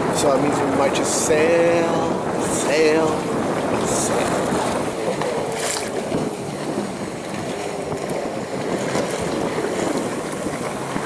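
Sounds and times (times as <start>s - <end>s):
water rushing along a hull: 0.0s - 11.0s
wind on the microphone: 0.0s - 11.0s.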